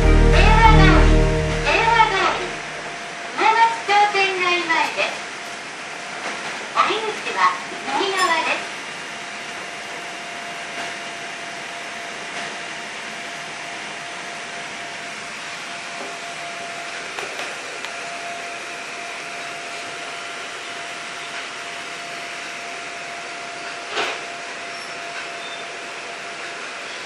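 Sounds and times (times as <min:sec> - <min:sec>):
monorail car running hum: 0:00.0 - 0:27.0.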